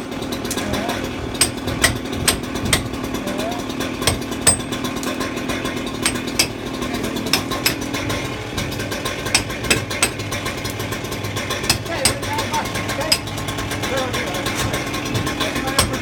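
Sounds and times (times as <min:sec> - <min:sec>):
steady engine hum: 0:00.0 - 0:16.0
hammer and chisel striking masonry: 0:01.3 - 0:16.0.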